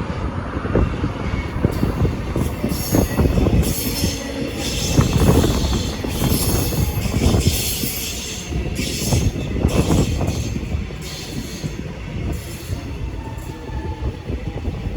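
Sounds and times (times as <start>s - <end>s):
train engine and wheels rumbling: 0.0s - 14.9s.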